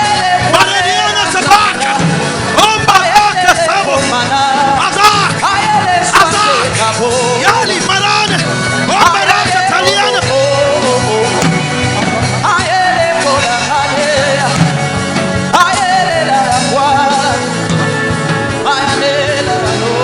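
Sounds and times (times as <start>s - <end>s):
worship music: 0.0s - 20.0s.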